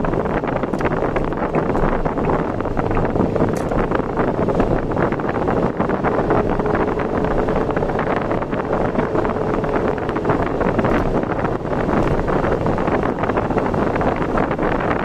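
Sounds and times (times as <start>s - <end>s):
vehicle running at highway speed: 0.0s - 15.0s
wind buffeting microphone: 0.0s - 15.0s.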